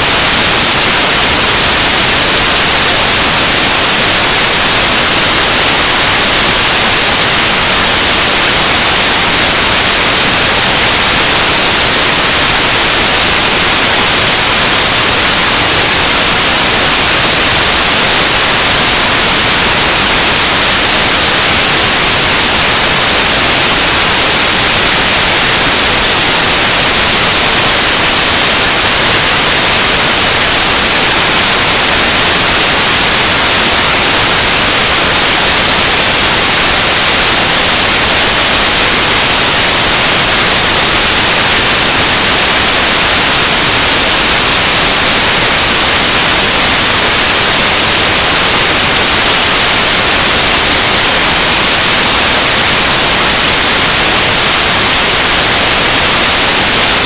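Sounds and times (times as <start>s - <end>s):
noise music static: 0.0s - 57.0s.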